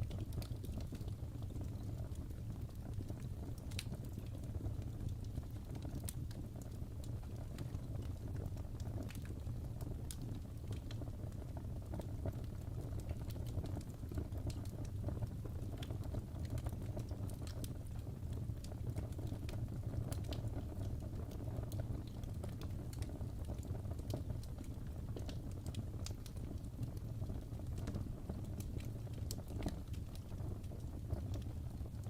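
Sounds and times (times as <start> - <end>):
fire popping: 0.0 - 32.0
low rumble of flames: 0.0 - 32.0
wood fire crackling: 0.0 - 32.0.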